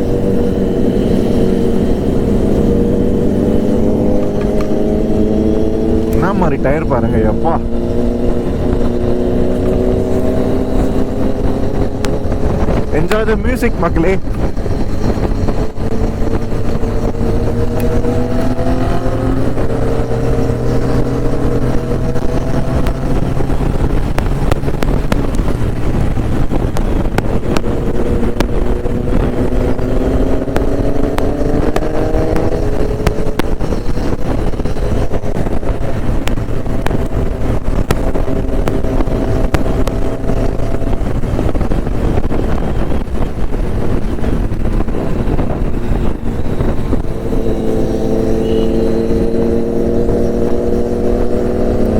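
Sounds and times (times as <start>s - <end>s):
motorcycle engine accelerating: 0.0s - 51.9s
wind rushing on microphone: 0.0s - 51.9s.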